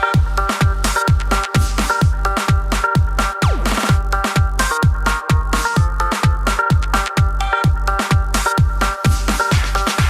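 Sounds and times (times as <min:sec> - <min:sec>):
deep kick drums: 0:00.0 - 0:10.0
held synth chords: 0:00.0 - 0:10.0.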